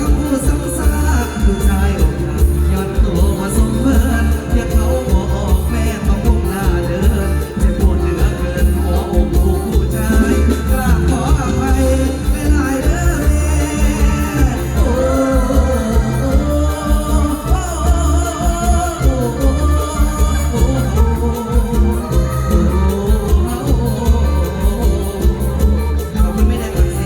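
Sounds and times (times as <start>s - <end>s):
heavy bass beat: 0.0s - 27.0s
live band music: 0.0s - 27.0s
person singing: 0.0s - 27.0s.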